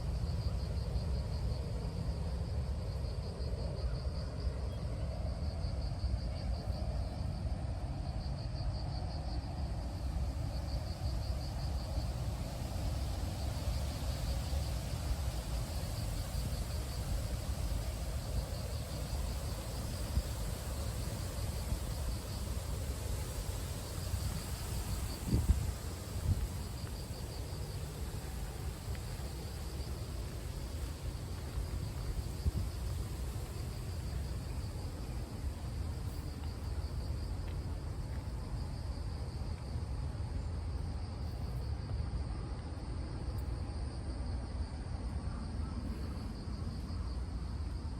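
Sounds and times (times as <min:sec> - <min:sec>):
insects chirping: 0:00.0 - 0:47.9
low steady rumble: 0:00.0 - 0:47.9.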